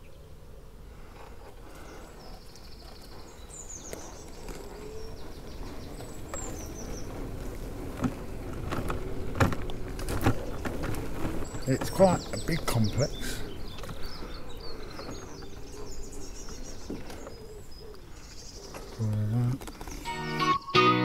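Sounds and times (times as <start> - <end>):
small birds singing: 0.0 - 21.0.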